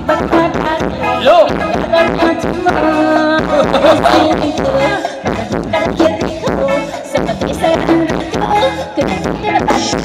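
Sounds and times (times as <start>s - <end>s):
live band playing dance music: 0.0s - 10.0s.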